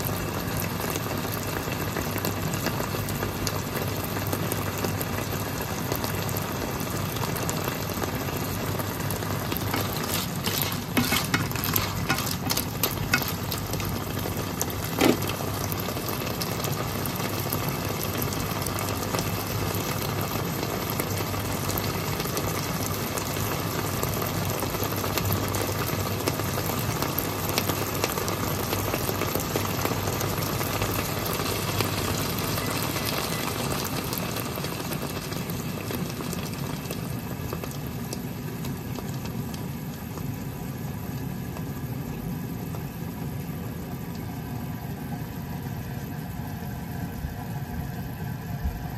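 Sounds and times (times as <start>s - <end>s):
clams sizzling in a frying pan: 0.0s - 48.9s.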